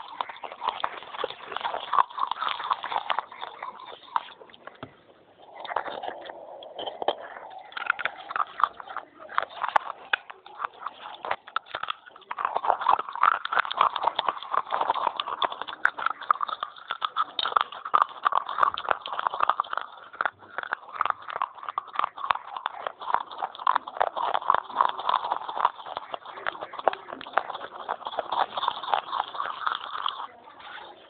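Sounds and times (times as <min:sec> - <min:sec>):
clay pot being bitten and chewed: 0:00.0 - 0:31.0.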